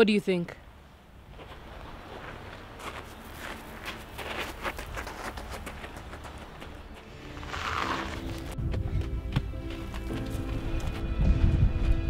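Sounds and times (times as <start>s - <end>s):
running footsteps on gravel: 1.3s - 12.0s.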